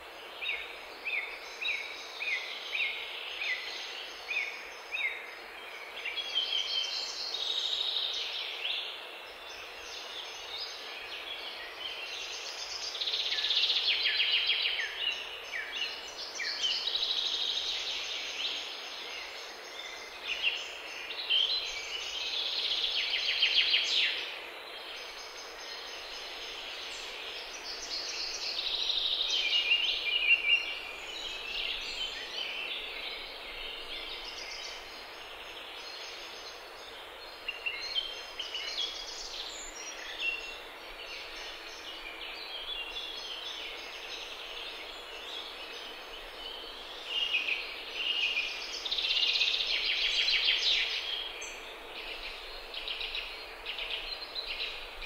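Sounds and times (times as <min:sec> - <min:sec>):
background hiss: 0:00.0 - 0:55.0
songbirds singing: 0:00.0 - 0:55.0.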